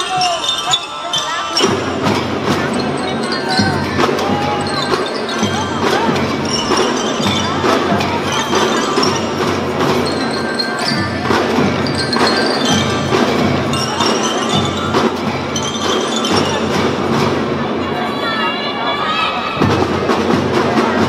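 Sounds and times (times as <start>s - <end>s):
bell lyres melody: 0.0s - 17.8s
snare and bass drums: 1.6s - 17.7s, 19.6s - 21.0s.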